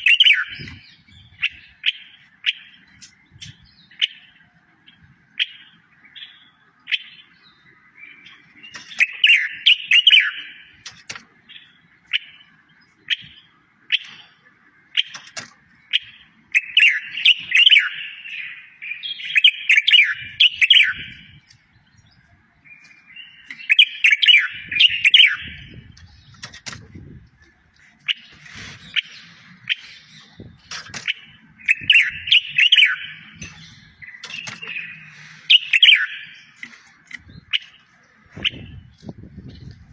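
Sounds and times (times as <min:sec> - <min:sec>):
songbird chirping and warbling: 0:00.0 - 0:39.9.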